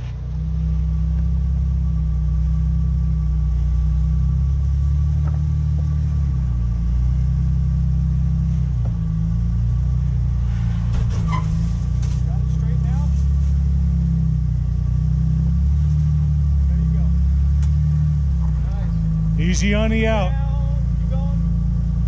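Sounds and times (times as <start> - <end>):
car engine low rumble: 0.0 - 22.0.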